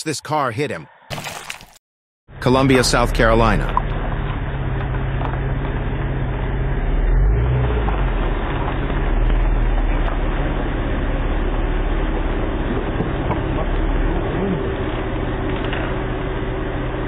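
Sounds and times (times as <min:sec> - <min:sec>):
car engine running: 0:02.3 - 0:17.0.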